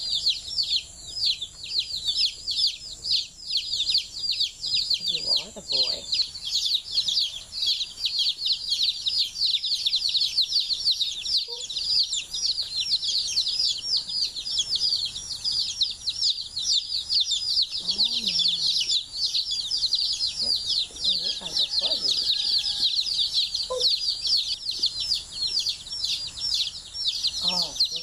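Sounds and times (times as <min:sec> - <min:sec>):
baby chicks peeping: 0:00.0 - 0:28.0.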